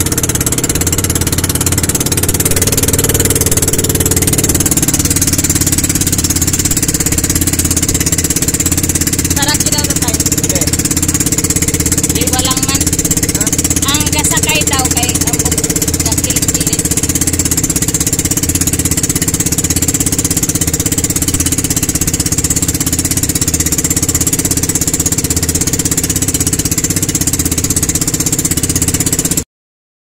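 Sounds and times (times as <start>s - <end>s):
boat engine chugging: 0.0s - 29.4s
rushing water and spray: 0.0s - 29.4s.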